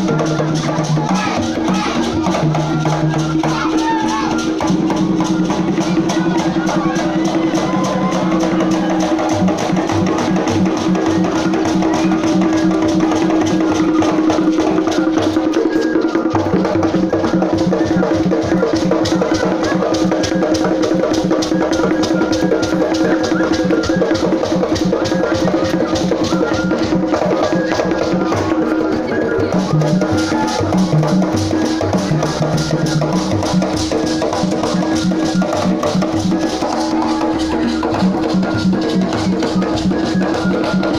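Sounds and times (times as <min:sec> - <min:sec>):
drums: 0:00.0 - 0:40.9
rapid rattling percussion: 0:00.0 - 0:40.9.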